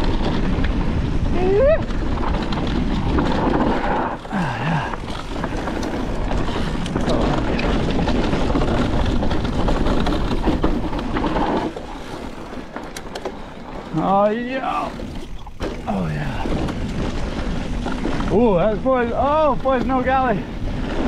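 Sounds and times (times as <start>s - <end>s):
bike rattling and knocking: 0.0s - 21.0s
tyre and trail noise: 0.0s - 21.0s.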